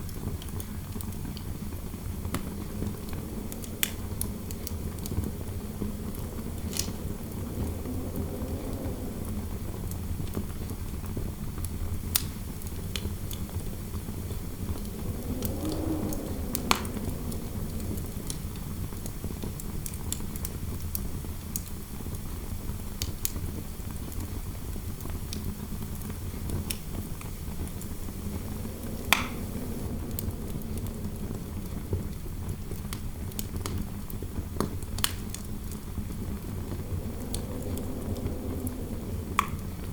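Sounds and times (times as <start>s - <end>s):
fireplace crackling: 0.0s - 10.8s, 12.0s - 20.9s, 26.0s - 39.9s
hollow wind howl: 0.0s - 39.9s
low indoor wind noise: 0.0s - 39.9s.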